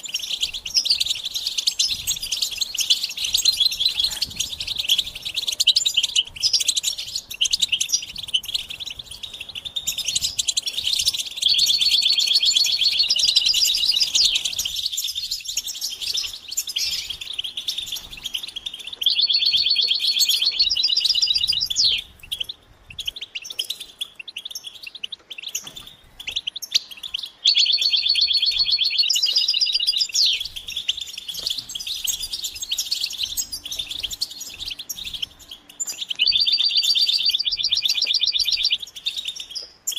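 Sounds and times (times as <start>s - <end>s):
finches twittering trills: 0.0s - 39.9s.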